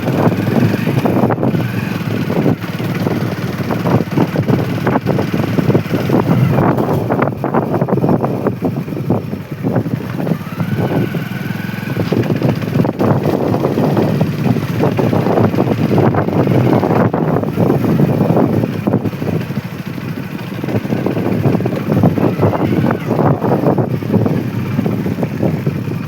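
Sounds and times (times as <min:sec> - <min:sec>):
motorcycle engine: 0:00.0 - 0:26.0.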